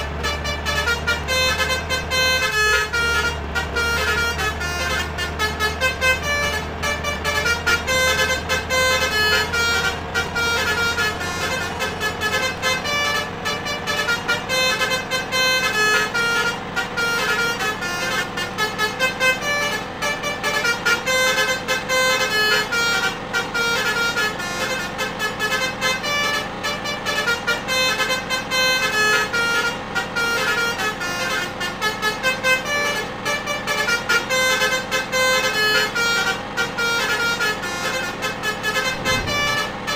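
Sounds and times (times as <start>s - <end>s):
bus horn playing a melody: 0.0s - 39.9s.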